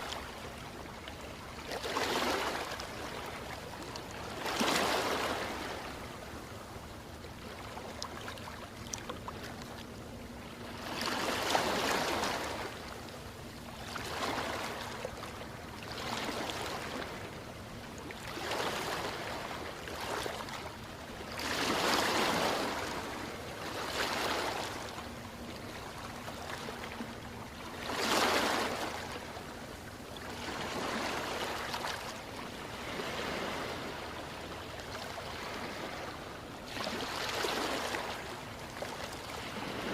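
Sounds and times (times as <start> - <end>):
ocean waves breaking: 0.0 - 6.6, 7.2 - 39.9.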